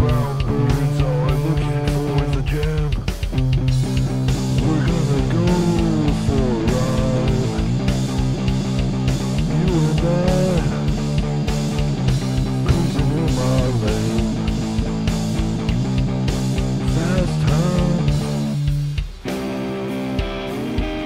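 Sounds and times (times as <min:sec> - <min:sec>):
bending lead guitar line: 0:00.0 - 0:21.0
rock song with guitar and drums: 0:00.0 - 0:21.0.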